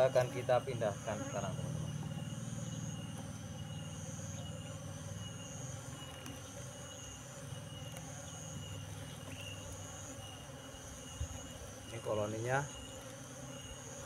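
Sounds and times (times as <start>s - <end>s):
bees buzzing: 0.0s - 14.0s
insects trilling: 0.0s - 14.0s.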